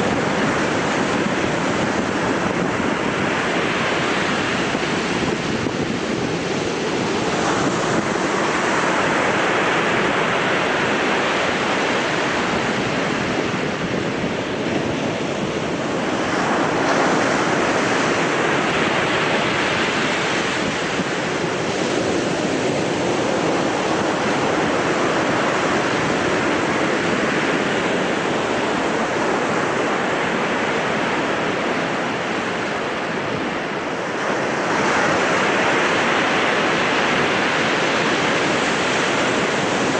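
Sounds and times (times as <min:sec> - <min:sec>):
surf breaking on sandy shore: 0:00.0 - 0:39.9
wind buffeting microphone: 0:00.0 - 0:39.9.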